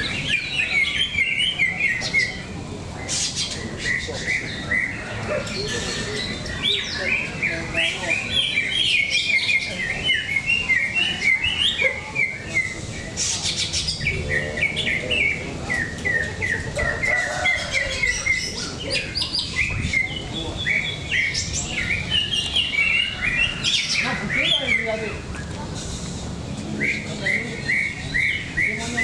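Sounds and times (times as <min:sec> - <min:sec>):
birds chirping and warbling: 0:00.0 - 0:29.0.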